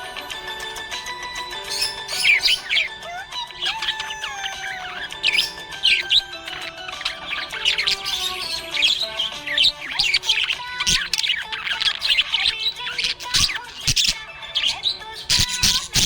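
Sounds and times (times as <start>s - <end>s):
background music: 0.0s - 16.0s
parrots chirping and squawking: 0.0s - 16.0s.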